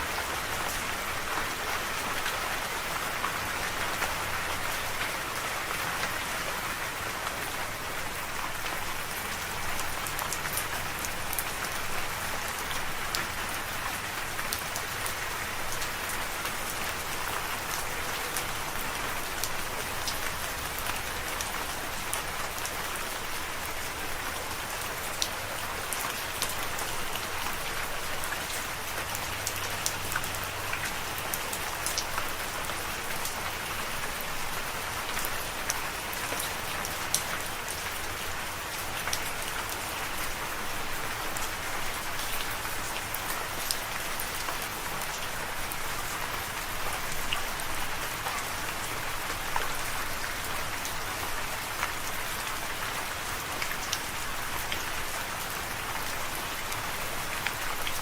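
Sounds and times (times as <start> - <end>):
raindrops ticking on a surface: 0.0 - 58.0
steady rain hiss: 0.0 - 58.0.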